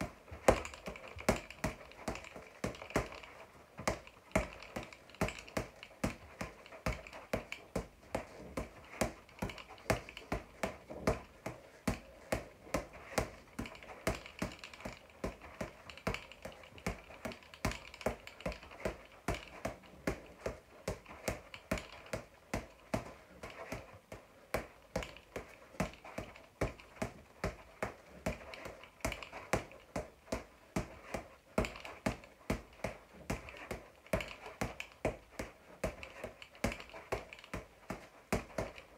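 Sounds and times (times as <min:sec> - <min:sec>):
boxing gloves striking ball: 0:00.0 - 0:38.9.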